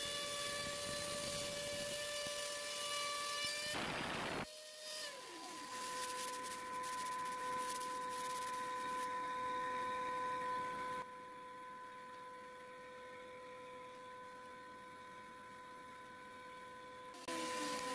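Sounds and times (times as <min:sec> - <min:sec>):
router spindle motor whining: 0:00.0 - 0:17.9.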